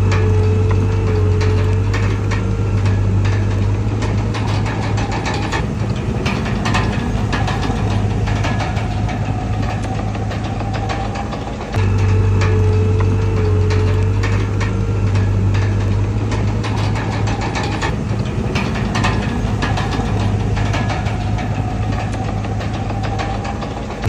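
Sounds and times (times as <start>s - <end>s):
bulldozer diesel engine droning: 0.0s - 24.0s
metallic clicks and clanks: 0.0s - 24.0s.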